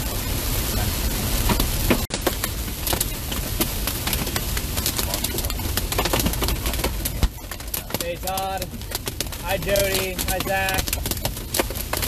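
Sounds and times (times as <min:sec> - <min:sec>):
rain hissing on a car: 0:00.0 - 0:12.0
hailstones clicking on a car: 0:00.3 - 0:12.0.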